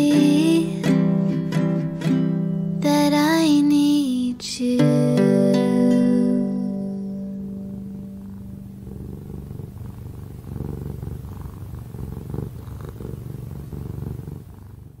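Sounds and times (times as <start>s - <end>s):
cat purring: 0.0s - 4.8s, 6.1s - 15.0s.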